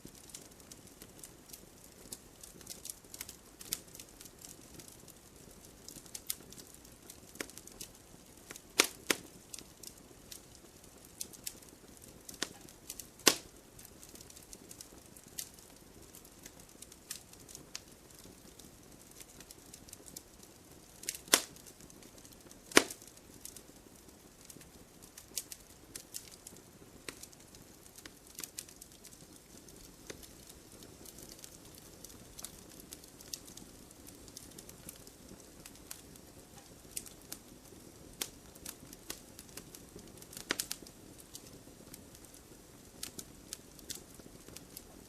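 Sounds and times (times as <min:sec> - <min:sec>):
sharp pops from burning logs: 0:00.0 - 0:45.0
wood fire crackling: 0:00.0 - 0:45.0.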